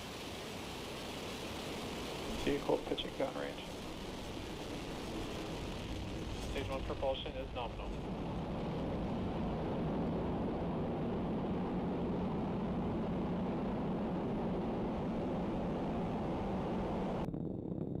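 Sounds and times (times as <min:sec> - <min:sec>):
rocket engines rumbling: 0:00.0 - 0:18.0.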